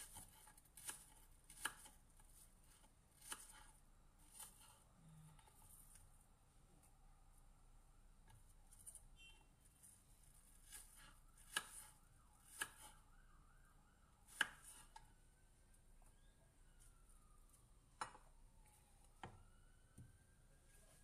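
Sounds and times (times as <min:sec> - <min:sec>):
faint siren: 0:00.0 - 0:21.0.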